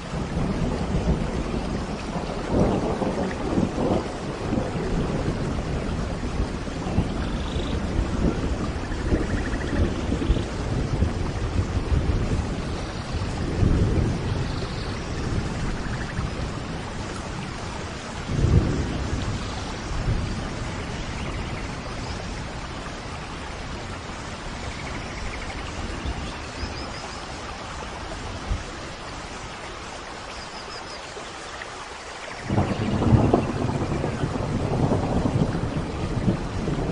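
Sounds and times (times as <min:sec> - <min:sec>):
thunder rumbling: 0:00.0 - 0:29.1, 0:32.4 - 0:36.9
steady rain falling: 0:00.0 - 0:36.9.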